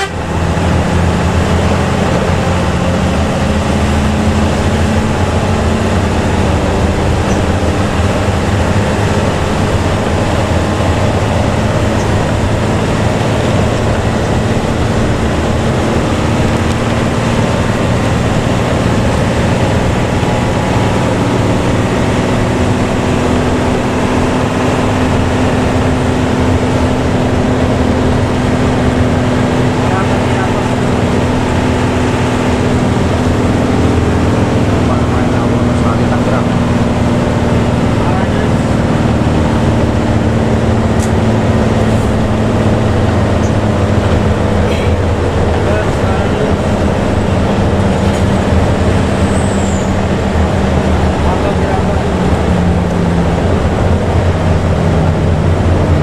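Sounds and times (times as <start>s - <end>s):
bus engine droning: 0.0s - 56.0s
road and tyre noise: 0.0s - 56.0s.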